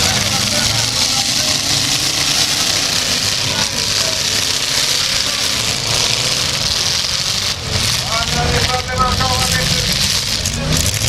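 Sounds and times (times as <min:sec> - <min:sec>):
car engines running loud: 0:00.0 - 0:11.0
constant hiss: 0:00.0 - 0:11.0.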